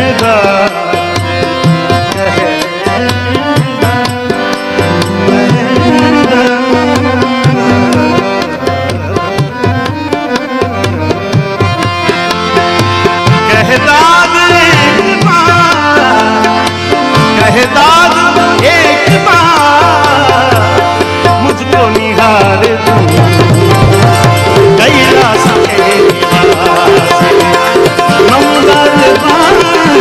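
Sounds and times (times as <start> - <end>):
held chords: 0.0 - 30.0
percussion beat: 0.0 - 30.0.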